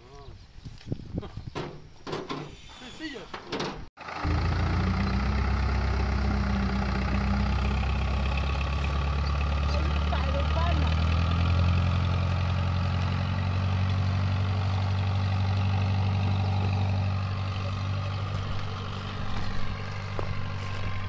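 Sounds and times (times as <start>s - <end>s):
tractor engine running: 4.0s - 21.0s.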